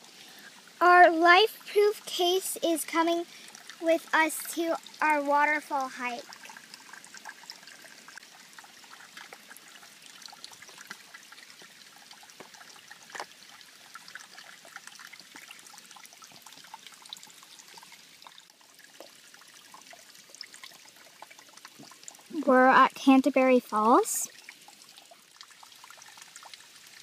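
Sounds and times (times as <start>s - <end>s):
creek trickling: 0.0s - 27.0s.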